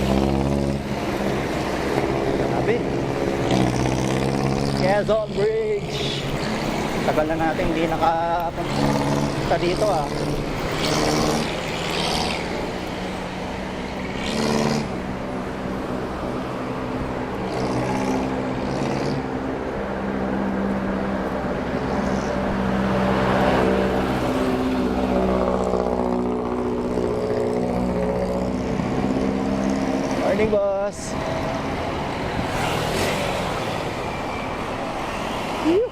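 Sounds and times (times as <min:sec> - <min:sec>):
low traffic rumble: 0:00.0 - 0:35.9
vehicles passing: 0:00.0 - 0:35.9.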